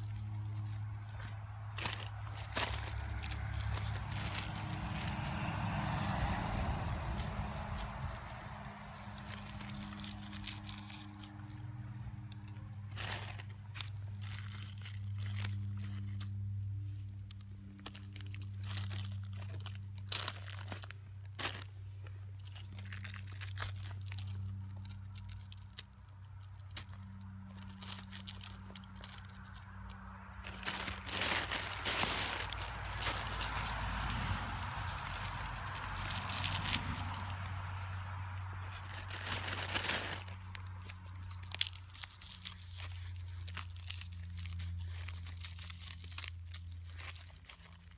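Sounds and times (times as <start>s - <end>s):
crunching and crinkling handling: 0.0s - 47.9s.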